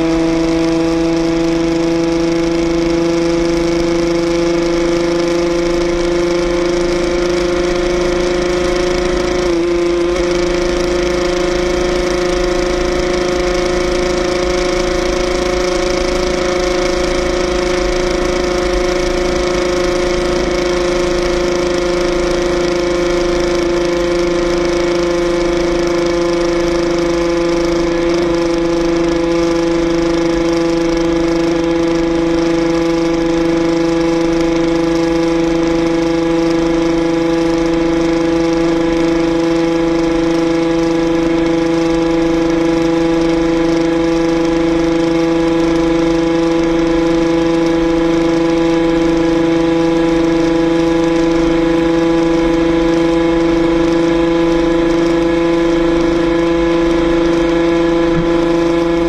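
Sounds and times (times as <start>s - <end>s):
motorcycle engine high revs whine: 0.0s - 59.0s.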